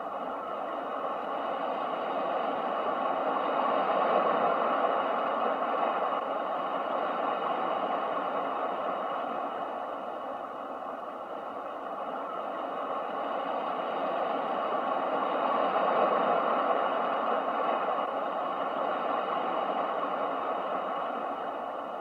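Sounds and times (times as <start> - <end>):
ocean surf rushing: 0.0 - 22.0.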